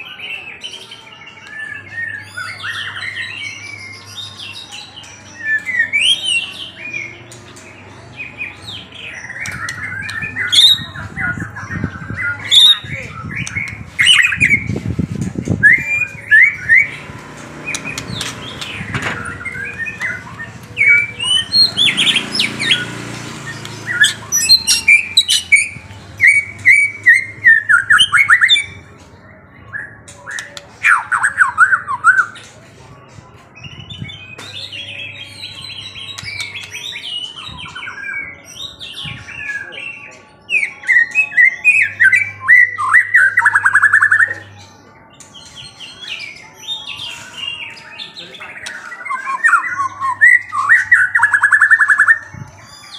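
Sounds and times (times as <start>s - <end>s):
songbird chirping and trilling: 0.0s - 52.9s.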